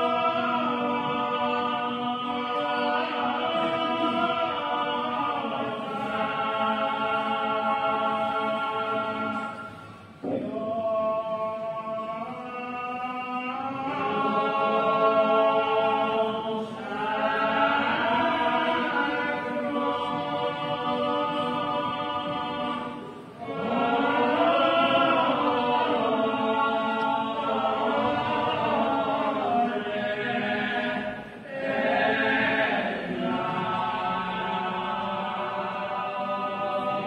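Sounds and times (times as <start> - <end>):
group singing a slow hymn: 0.0 - 37.0.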